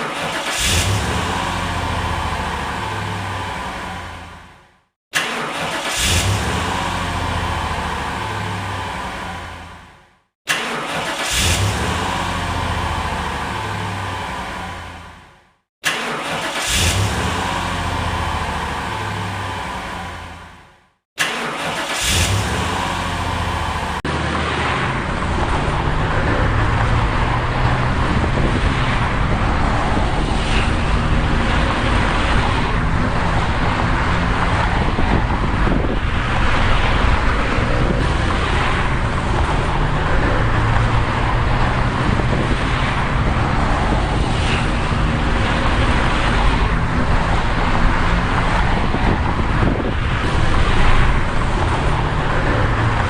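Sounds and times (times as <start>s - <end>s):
vehicles passing: 0.0s - 4.9s, 5.5s - 15.6s, 16.2s - 20.9s, 21.7s - 53.0s
road and traffic noise: 0.0s - 53.0s
car engine humming: 0.4s - 4.8s, 5.6s - 10.2s, 11.2s - 15.4s, 16.5s - 20.8s, 21.7s - 53.0s.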